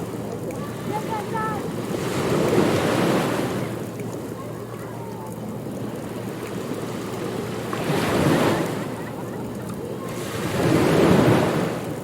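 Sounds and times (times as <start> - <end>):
ocean waves washing in: 0.0 - 4.4, 5.3 - 12.0.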